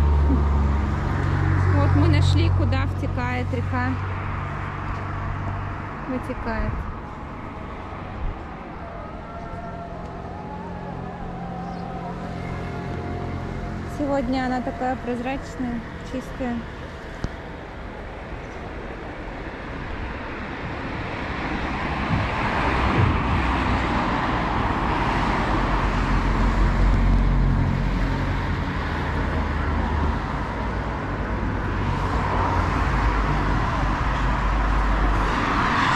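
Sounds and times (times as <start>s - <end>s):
cars going by: 0.0s - 35.9s.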